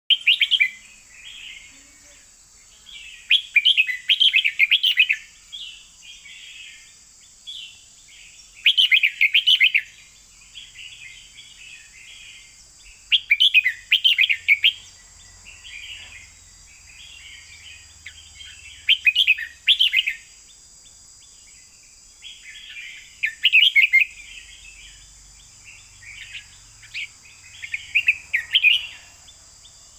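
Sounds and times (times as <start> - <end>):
bird singing: 0.1 - 29.9
steady high hiss: 0.1 - 29.9.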